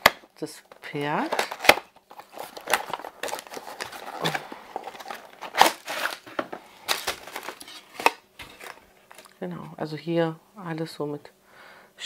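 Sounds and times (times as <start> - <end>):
cardboard and plastic packaging rustling: 0.0 - 9.8.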